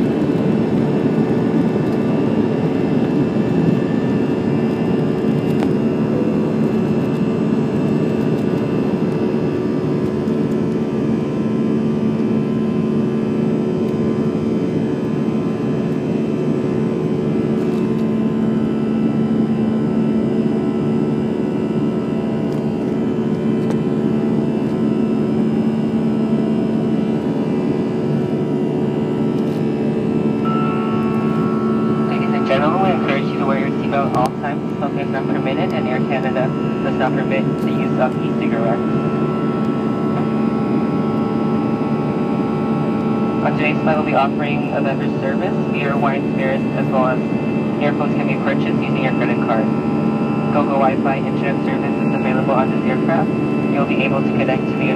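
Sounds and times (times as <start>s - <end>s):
jet engine drone in cabin: 0.0s - 54.9s
low hum tones: 0.0s - 54.9s.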